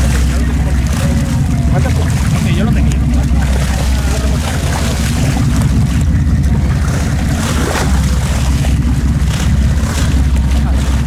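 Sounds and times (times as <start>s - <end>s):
boat engine running: 0.0s - 11.0s
water splashing against hull: 0.0s - 11.0s.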